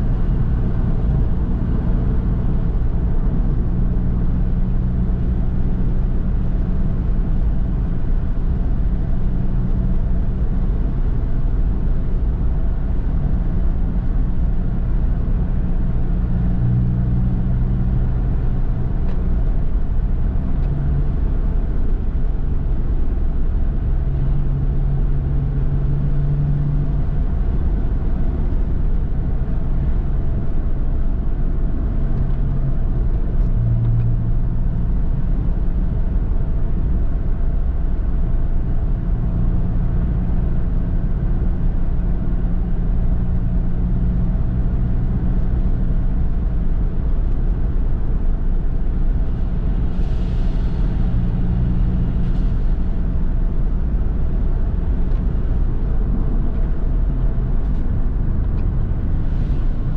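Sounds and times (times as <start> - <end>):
car engine running while driving: 0.0 - 59.9.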